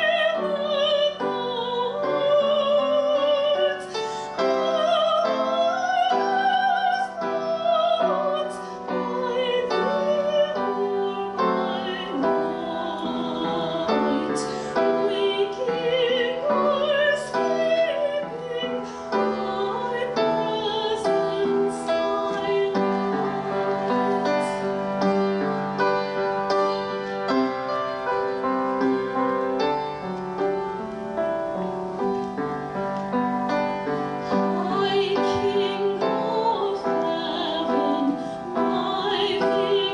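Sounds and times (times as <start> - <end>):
piano accompaniment: 0.0 - 39.9.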